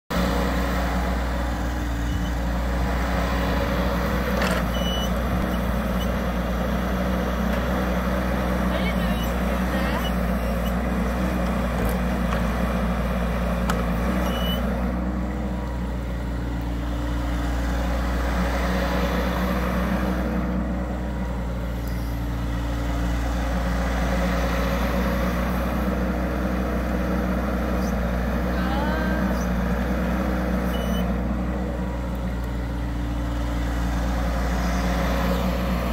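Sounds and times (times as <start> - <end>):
excavator diesel engine running: 0.1 - 35.9.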